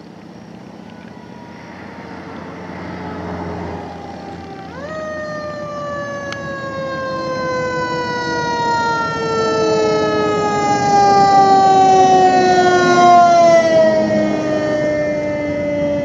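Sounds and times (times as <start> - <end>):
fire truck siren: 0.0 - 16.0.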